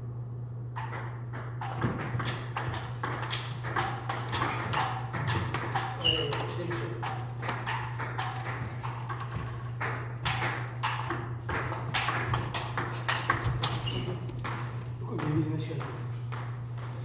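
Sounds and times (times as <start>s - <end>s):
low hum in hall: 0.0s - 17.0s
table tennis ball hits: 0.8s - 17.0s.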